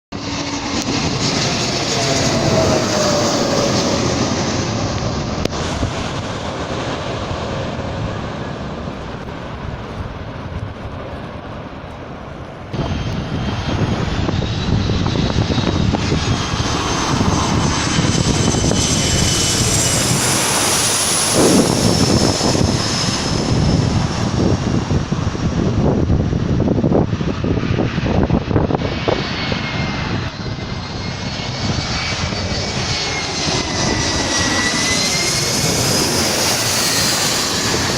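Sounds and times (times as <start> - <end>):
airliner flying low overhead: 0.1 - 37.9.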